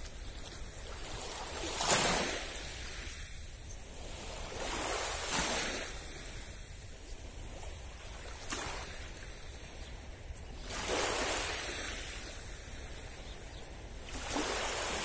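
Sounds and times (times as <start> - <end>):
small waves washing on beach: 0.0 - 15.0.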